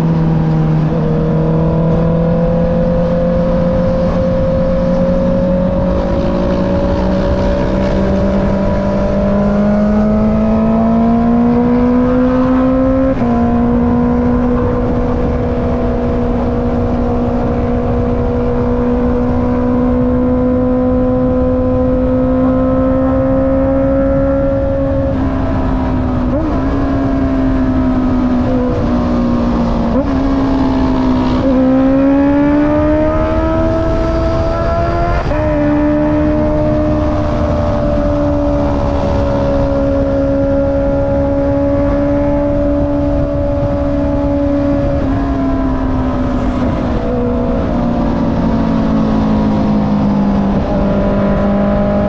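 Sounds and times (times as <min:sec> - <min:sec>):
motorcycle engine revving: 0:00.0 - 0:52.0
wind rush: 0:00.0 - 0:52.0.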